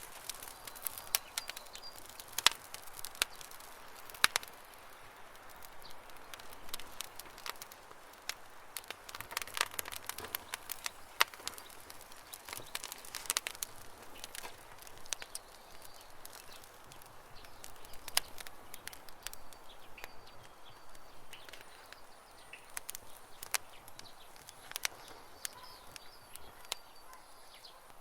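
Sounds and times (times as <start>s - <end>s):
birds chirping: 0.0s - 7.8s, 8.6s - 28.0s
campfire crackling: 0.0s - 28.0s.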